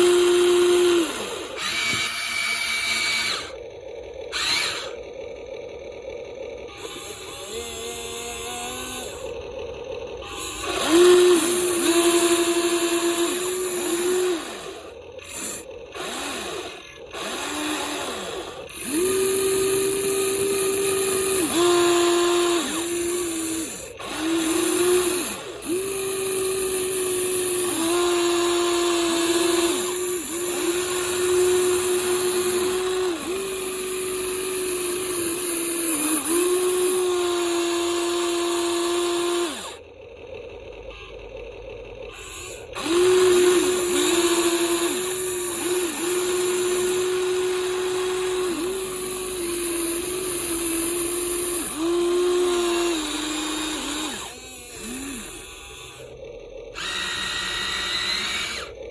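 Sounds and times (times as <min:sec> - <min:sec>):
small electric motors whirring: 0:00.0 - 0:58.9.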